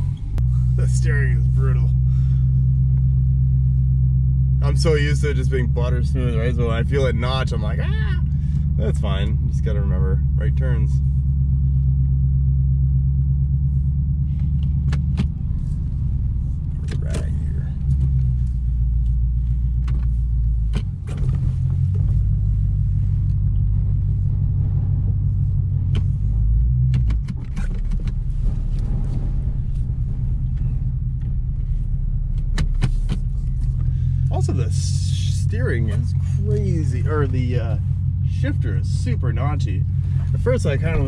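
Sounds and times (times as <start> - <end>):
car engine rumbling: 0.0 - 41.0.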